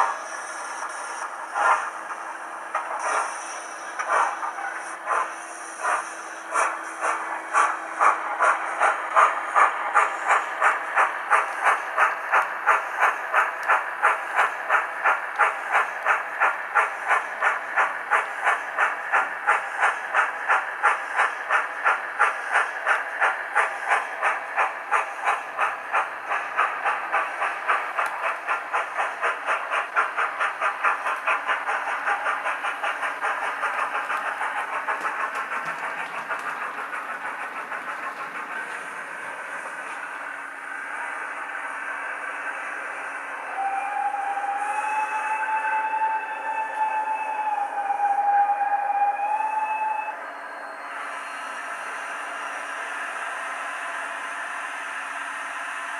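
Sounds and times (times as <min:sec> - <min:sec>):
steam locomotive chuffs from small speaker: 0:00.0 - 0:55.9.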